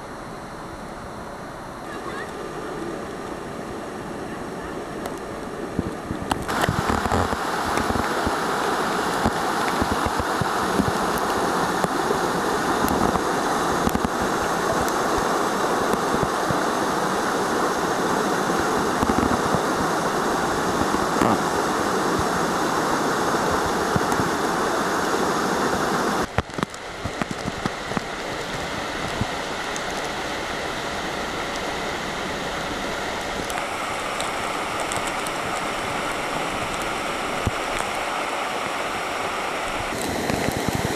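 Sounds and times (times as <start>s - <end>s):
stream and waterfall rushing: 0.0s - 40.9s.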